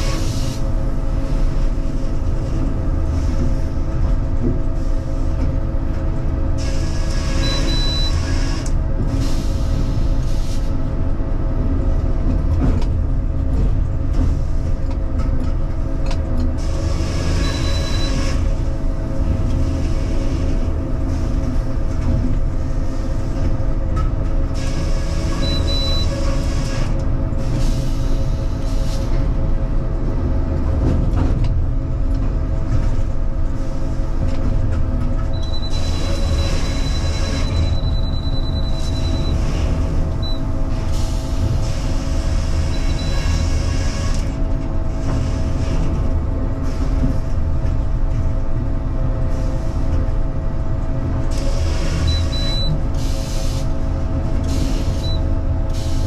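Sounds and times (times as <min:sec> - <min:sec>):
sawmill machinery rumble and hum: 0:00.0 - 0:56.0.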